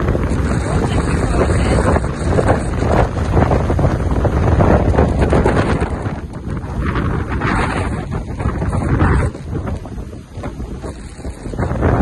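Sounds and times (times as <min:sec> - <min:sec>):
wind blowing against microphone: 0:00.0 - 0:12.0.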